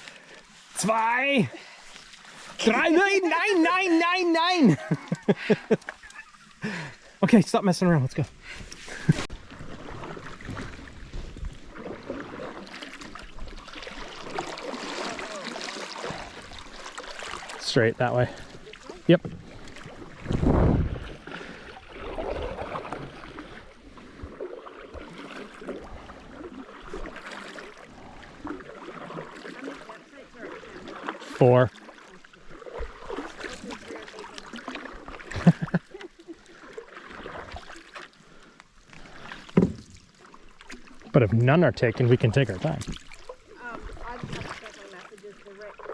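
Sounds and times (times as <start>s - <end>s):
paddle splashing water: 0.0s - 45.9s.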